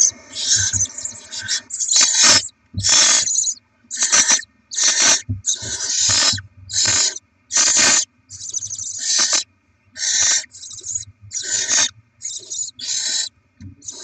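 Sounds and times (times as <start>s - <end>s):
owl chicks hissing calls: 0.0s - 14.0s.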